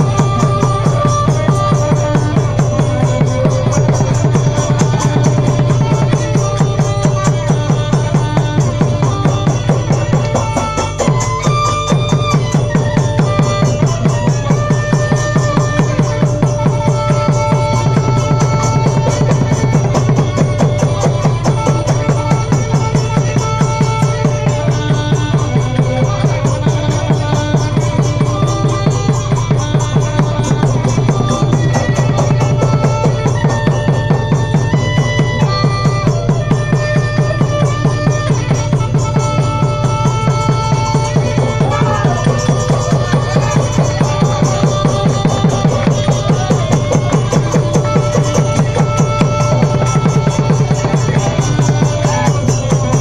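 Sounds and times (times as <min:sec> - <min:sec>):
held melodic notes: 0:00.0 - 0:53.0
quick even drum beat: 0:00.0 - 0:53.0.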